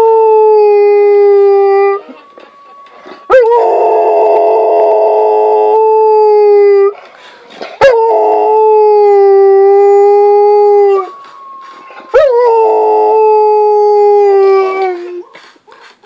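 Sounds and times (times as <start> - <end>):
dog howling: 0.0 - 7.0, 7.8 - 15.3.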